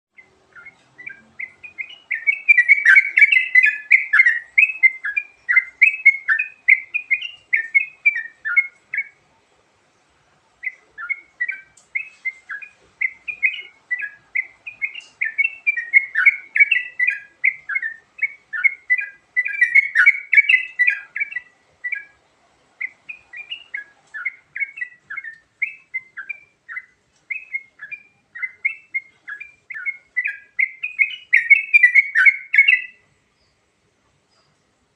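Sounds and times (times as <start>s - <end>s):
bulbul singing: 0.1s - 34.9s.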